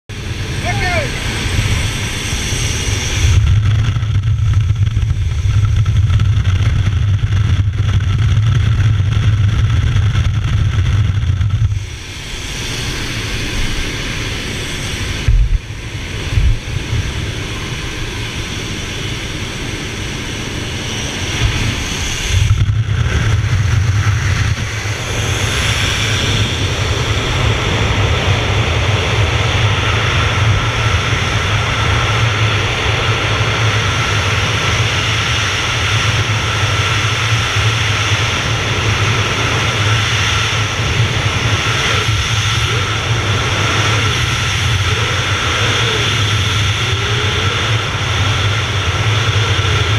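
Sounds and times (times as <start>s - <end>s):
aircraft engine: 0.0s - 49.9s
wind rush on microphone: 0.1s - 49.9s.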